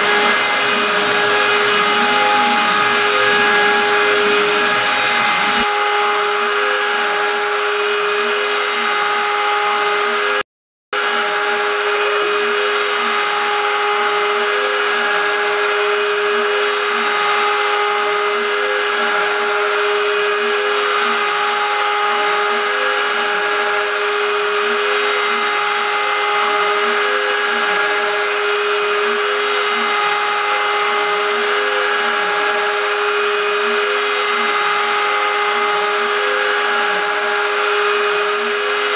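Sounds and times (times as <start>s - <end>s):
milling aluminium cutting noise: 0.0s - 10.4s, 11.0s - 38.9s
router spindle high whine: 0.0s - 10.4s, 11.0s - 38.9s.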